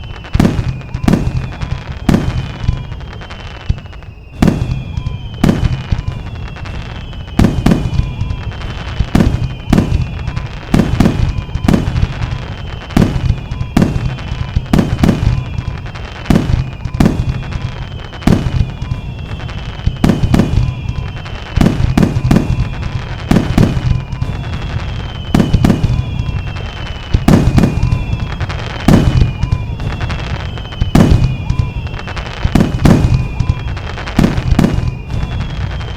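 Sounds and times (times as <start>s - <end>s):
descending firework whistles: 0.0s - 35.9s
fireworks bursting: 0.0s - 35.9s.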